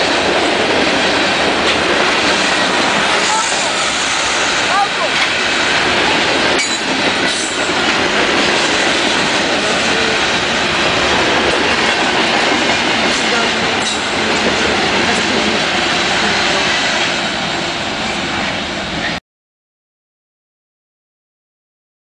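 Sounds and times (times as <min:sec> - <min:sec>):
train wheels rumbling on rails: 0:00.0 - 0:19.2.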